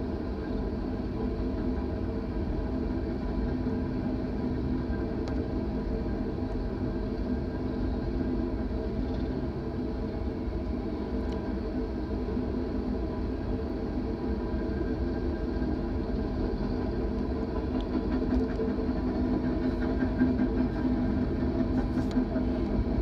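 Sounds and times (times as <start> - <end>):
engine drone: 3.4 - 23.0.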